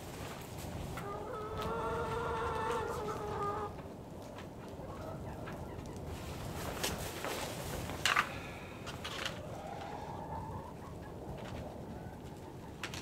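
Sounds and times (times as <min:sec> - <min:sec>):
hen house noise: 0:00.0 - 0:13.0.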